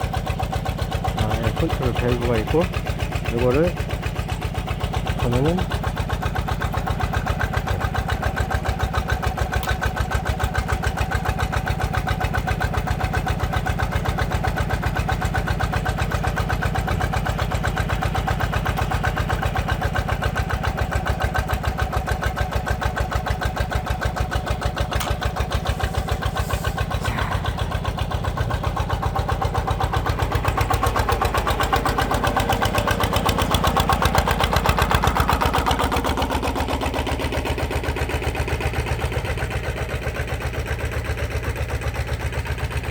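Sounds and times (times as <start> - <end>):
diesel engine chugging: 0.0 - 42.9.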